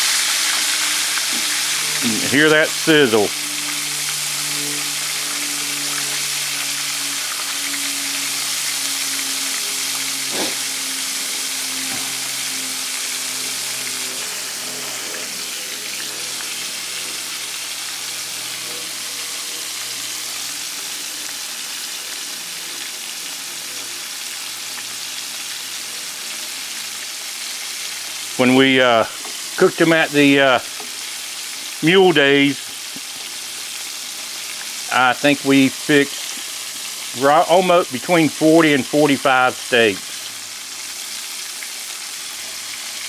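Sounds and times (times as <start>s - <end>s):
meat deep-frying in oil: 0.0s - 43.0s.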